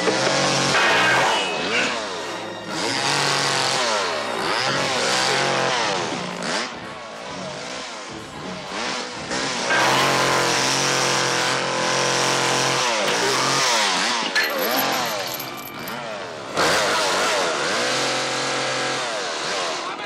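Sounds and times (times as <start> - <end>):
chainsaw engine revving: 0.0 - 20.0.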